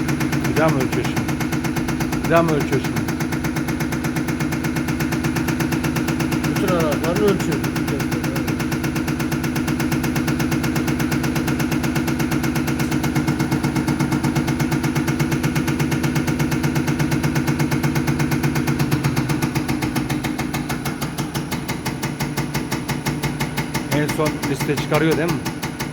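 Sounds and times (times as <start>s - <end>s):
pulsing mechanical hum: 0.0s - 25.9s.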